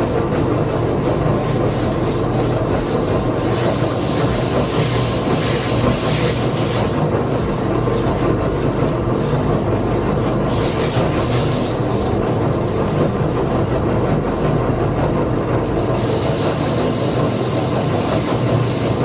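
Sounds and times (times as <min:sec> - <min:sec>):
wood being sanded: 0:00.0 - 0:19.0.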